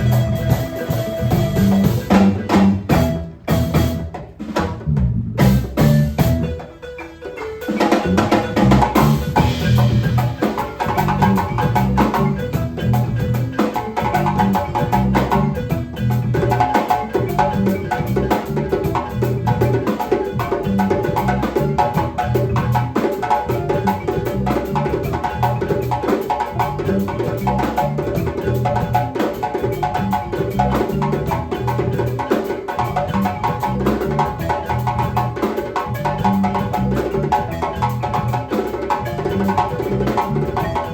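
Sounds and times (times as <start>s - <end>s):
repeating melody: 0.0s - 4.2s, 5.5s - 40.9s
bass line: 0.0s - 6.6s, 7.9s - 32.2s, 32.8s - 40.9s.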